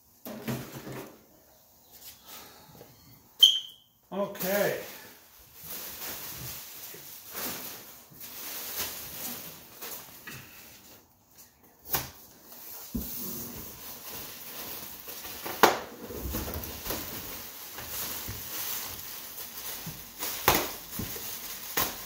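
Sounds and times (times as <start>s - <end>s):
packing material rustling: 4.3s - 22.0s.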